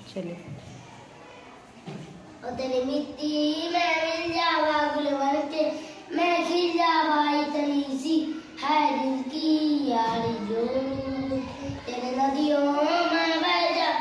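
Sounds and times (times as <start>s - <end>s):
boy singing unaccompanied: 2.4s - 14.0s.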